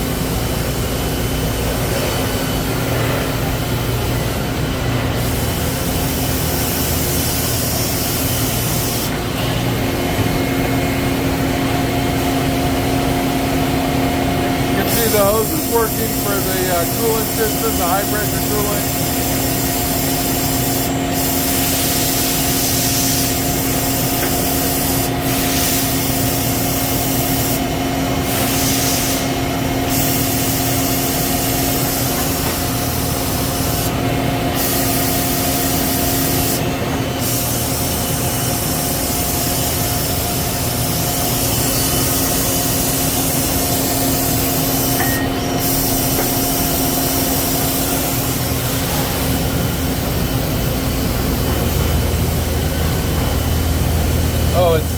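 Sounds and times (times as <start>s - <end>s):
lathe machine hum: 0.0s - 54.9s
coolant spraying hiss: 0.2s - 10.0s, 10.6s - 54.9s.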